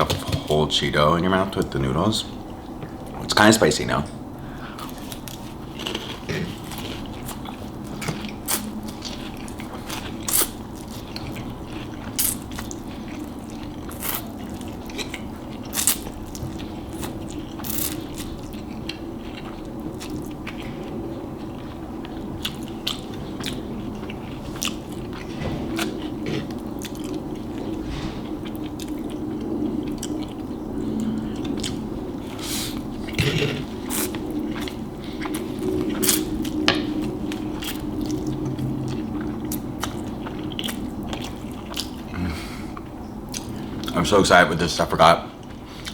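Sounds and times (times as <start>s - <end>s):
chewing crunchy snacks: 4.6s - 44.1s.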